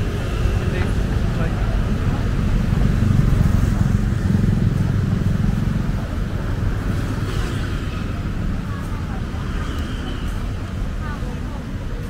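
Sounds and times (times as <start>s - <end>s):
faint voices: 0.0s - 12.0s
street low rumble: 0.0s - 12.0s.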